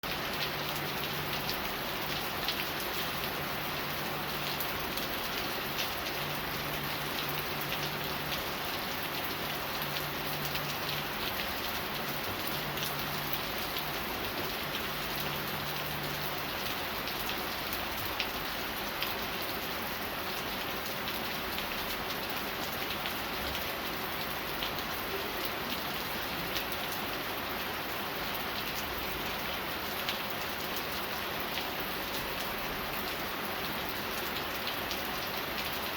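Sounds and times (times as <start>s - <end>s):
sharp ticks of raindrops: 0.0s - 35.9s
steady rain falling: 0.0s - 35.9s.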